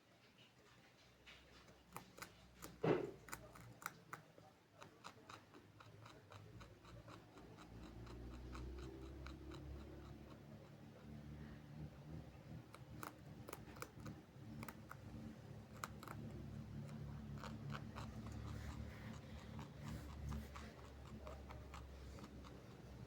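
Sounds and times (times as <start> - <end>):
animal chewing crunchy rind: 0.9 - 23.0.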